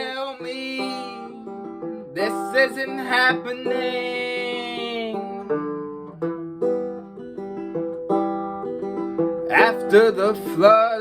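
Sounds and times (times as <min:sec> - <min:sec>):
banjo picking: 0:00.0 - 0:11.0.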